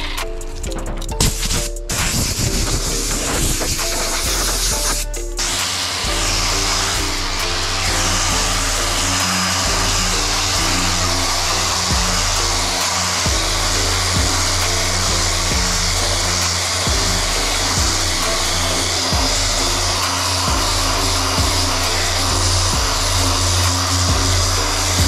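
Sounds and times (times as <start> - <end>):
background music with beat: 0.0 - 25.0
power sander running: 1.9 - 25.0.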